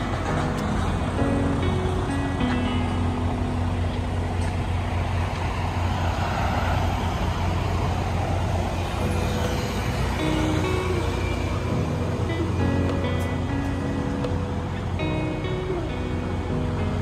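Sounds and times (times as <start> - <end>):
low traffic rumble: 0.0 - 17.0
vehicle passing close: 0.0 - 17.0.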